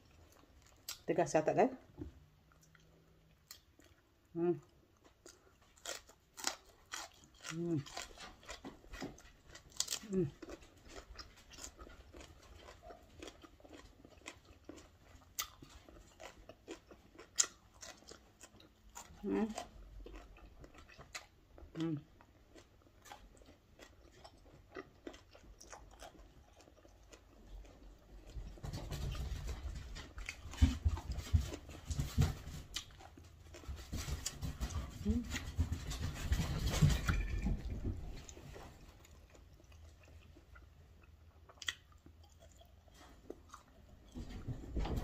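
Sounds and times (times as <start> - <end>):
person chewing food: 0.0 - 1.0, 1.9 - 45.0.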